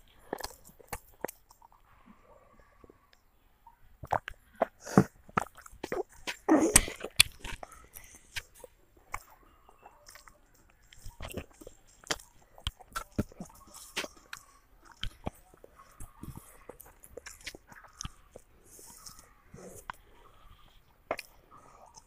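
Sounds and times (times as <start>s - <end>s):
child chewing food: 0.0s - 3.3s, 4.0s - 22.0s.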